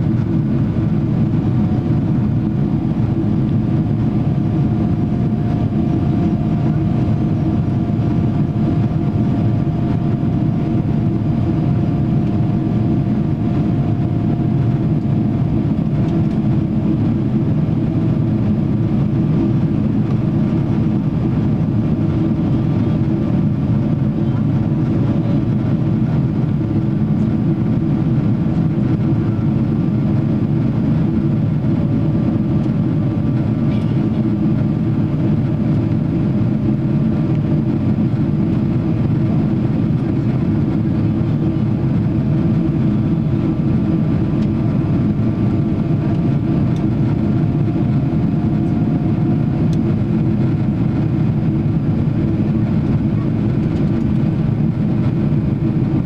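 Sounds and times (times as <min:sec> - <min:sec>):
faint engine whine: 0:00.0 - 0:56.0
jet engine drone and airflow: 0:00.0 - 0:56.0.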